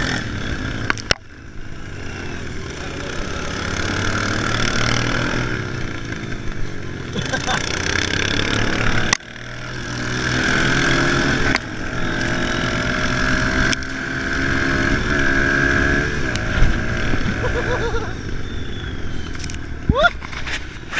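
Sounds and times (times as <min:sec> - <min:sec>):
small motorbike engine running: 0:00.0 - 0:20.9.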